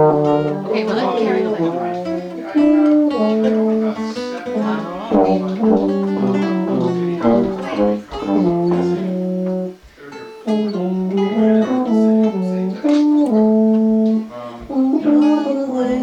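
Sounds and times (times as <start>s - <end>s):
brass instruments playing: 0.0s - 16.0s.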